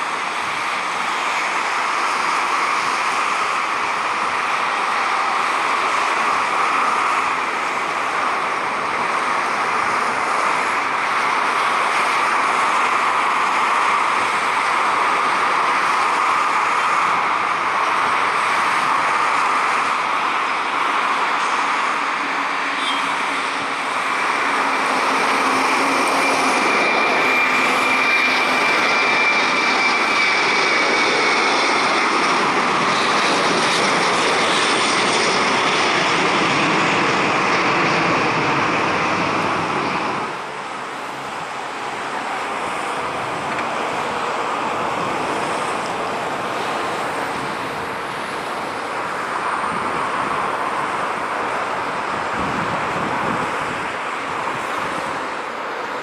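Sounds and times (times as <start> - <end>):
jet engines at takeoff: 0.0 - 56.0
jet landing engine noise: 0.0 - 56.0.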